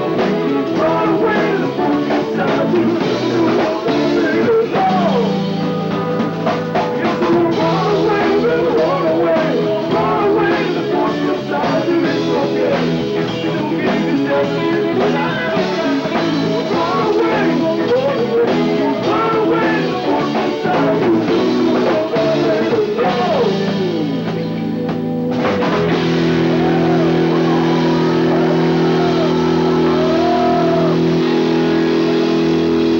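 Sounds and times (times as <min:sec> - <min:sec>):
rock band playing live: 0:00.0 - 0:32.9.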